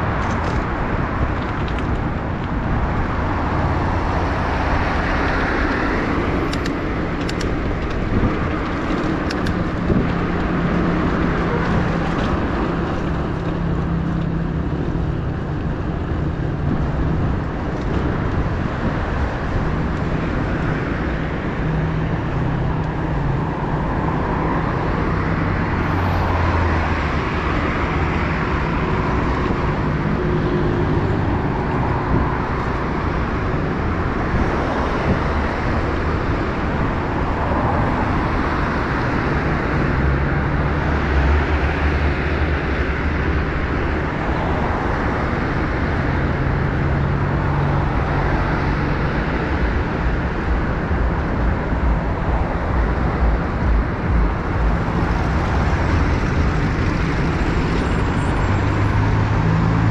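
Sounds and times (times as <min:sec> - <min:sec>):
car traffic: 0:00.0 - 0:59.9
road noise from bicycle: 0:00.0 - 0:59.9.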